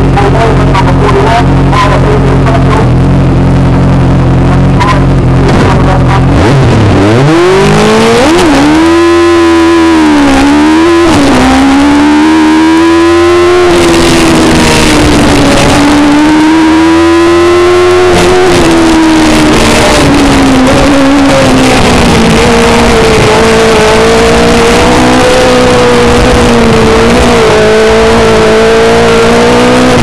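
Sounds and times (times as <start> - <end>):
racing car engine at high revs: 0.0 - 30.0.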